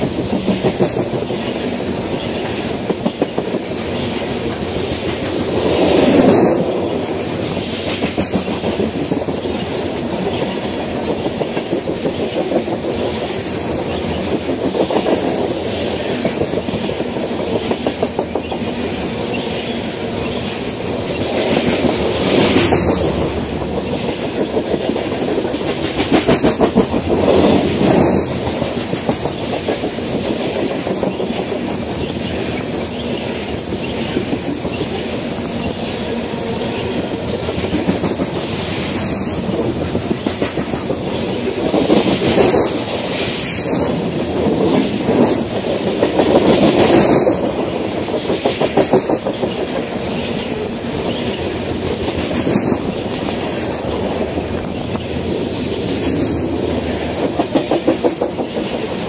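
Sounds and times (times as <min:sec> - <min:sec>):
freight cars rolling on rails: 0:00.0 - 0:59.0
wheels clickety-clack on rail joints: 0:00.0 - 0:59.0.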